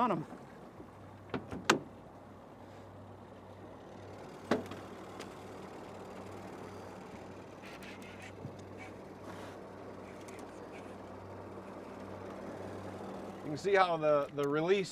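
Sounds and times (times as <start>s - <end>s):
boat motor humming: 0.0s - 14.9s.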